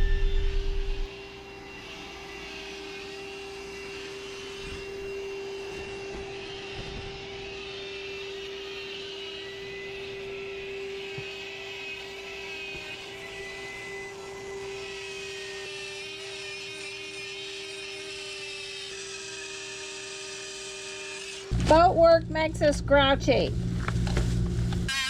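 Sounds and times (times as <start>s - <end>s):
motor running steadily: 0.0s - 25.0s.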